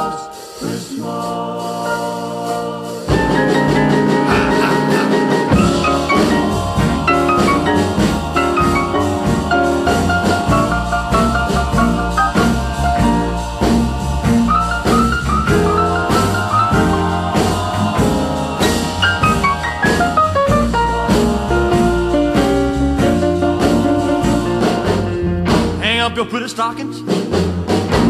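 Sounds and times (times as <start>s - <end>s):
instrumental rock and roll music: 0.0s - 28.0s.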